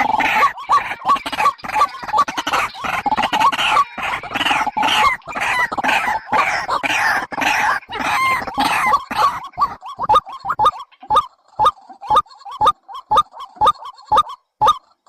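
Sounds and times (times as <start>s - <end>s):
bird clucking notes: 0.0s - 15.0s.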